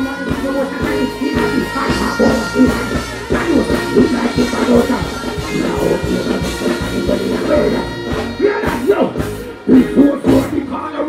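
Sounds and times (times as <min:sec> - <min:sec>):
man chanting into a microphone: 0:00.0 - 0:08.9
loud dancehall backing music: 0:00.0 - 0:11.0.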